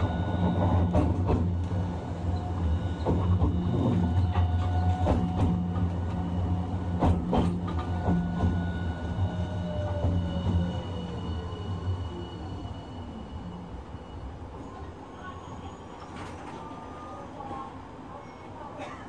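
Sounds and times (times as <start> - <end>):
tram running rumble: 0.0 - 19.0.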